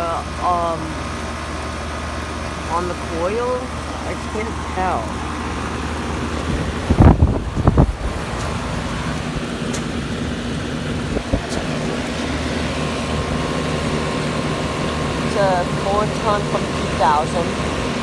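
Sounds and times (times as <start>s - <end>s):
air conditioner compressor hum: 0.0s - 18.0s.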